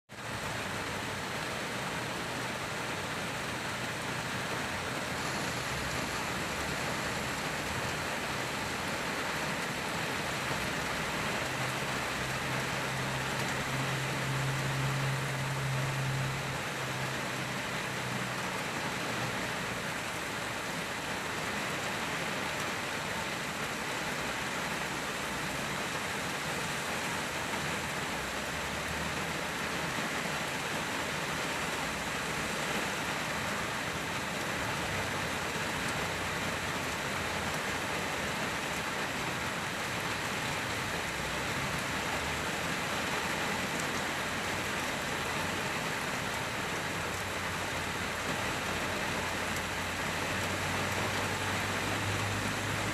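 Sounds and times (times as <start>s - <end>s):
rain pattering on windshield: 0.1s - 52.9s
rainwater gurgling on glass: 0.1s - 52.9s.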